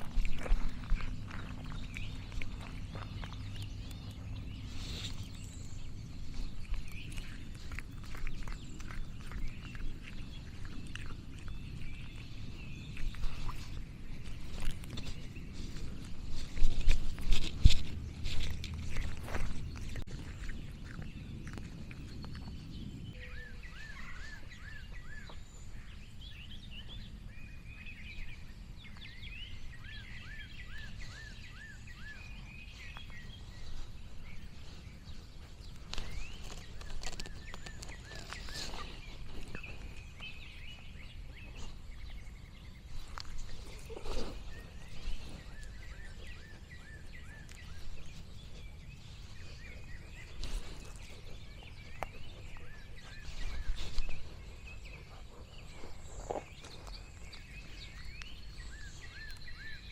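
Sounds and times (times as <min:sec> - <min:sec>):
low outdoor rumble: 0:00.0 - 0:59.9
small birds singing: 0:00.0 - 0:59.9.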